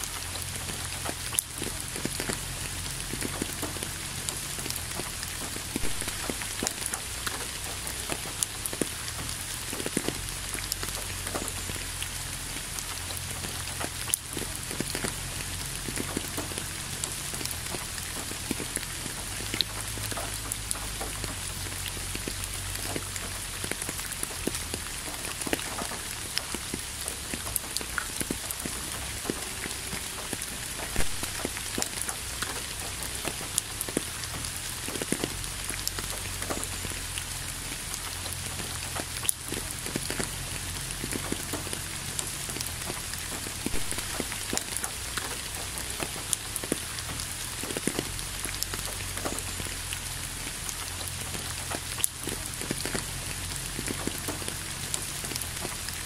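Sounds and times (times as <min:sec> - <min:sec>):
rain hiss: 0:00.0 - 0:56.0
raindrop hits: 0:00.0 - 0:56.0.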